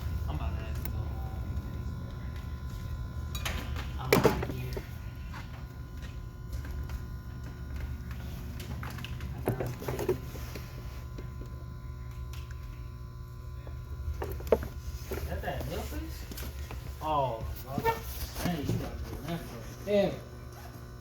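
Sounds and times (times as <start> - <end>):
cleaning machine humming: 0.0 - 21.0
faint motor whine: 0.0 - 21.0.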